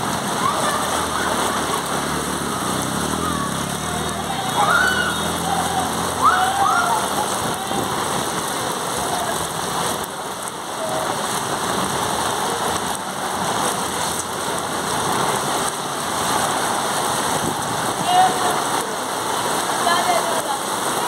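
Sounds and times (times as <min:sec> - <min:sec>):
heavy rain on flooded street: 0:00.0 - 0:21.0.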